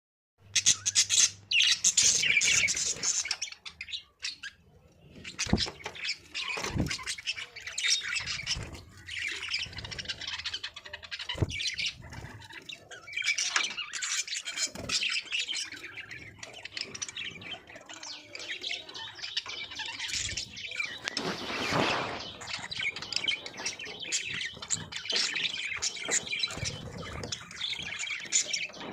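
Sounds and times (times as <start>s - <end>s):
budgerigars chirping and chattering: 0.4s - 28.9s.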